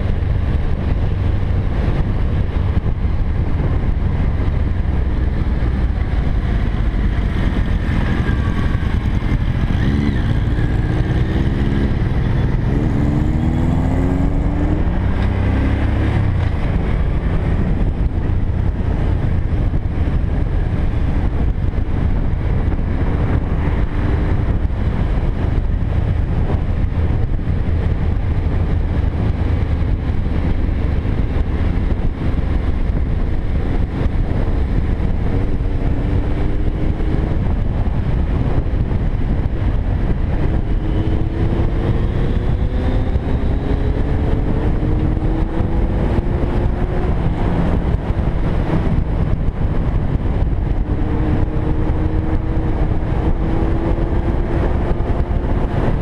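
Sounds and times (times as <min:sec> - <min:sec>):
motorcycle engine accelerating: 0:00.0 - 0:56.0
wind on microphone: 0:00.0 - 0:56.0.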